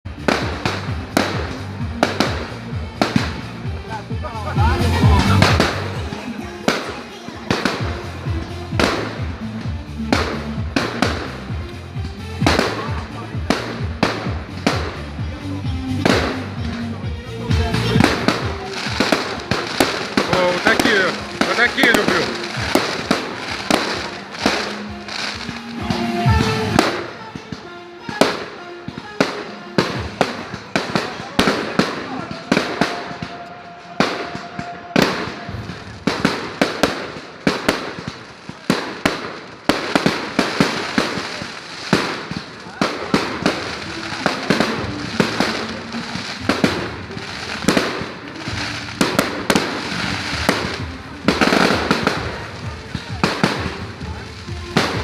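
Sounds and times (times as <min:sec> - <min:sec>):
fireworks bangs: 0:00.0 - 0:55.0
continuous noisy hiss: 0:00.1 - 0:55.0.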